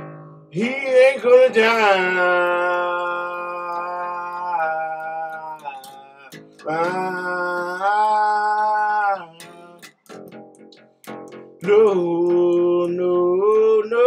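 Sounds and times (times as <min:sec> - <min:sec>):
fingerpicked acoustic bass guitar: 0:00.0 - 0:14.0
man singing held notes: 0:00.6 - 0:09.9, 0:11.6 - 0:14.0.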